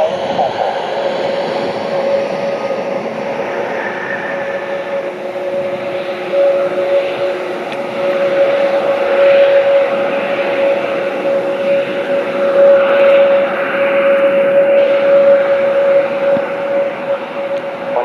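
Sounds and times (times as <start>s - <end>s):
aircraft engines whining: 0.0s - 18.0s
rushing noise: 0.0s - 18.0s.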